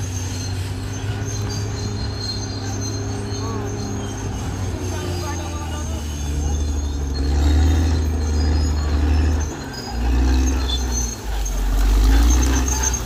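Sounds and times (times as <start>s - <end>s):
bulldozer diesel engine drone: 0.0s - 13.0s.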